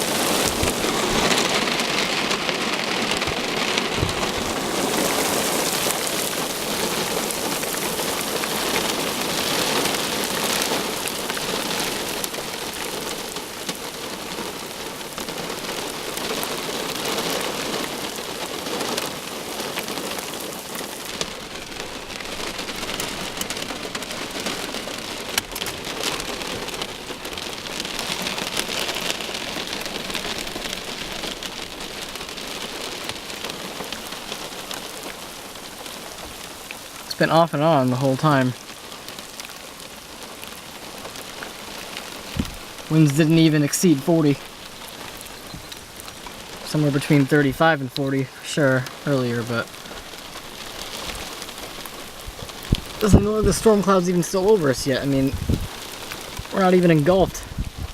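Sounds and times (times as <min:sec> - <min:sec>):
heavy rain on hard surface: 0:00.0 - 0:57.9.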